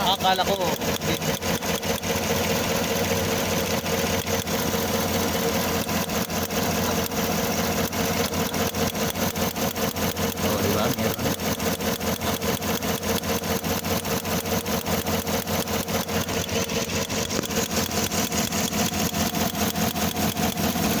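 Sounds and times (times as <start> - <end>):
engine idling roughly with misfire: 0.0 - 21.0.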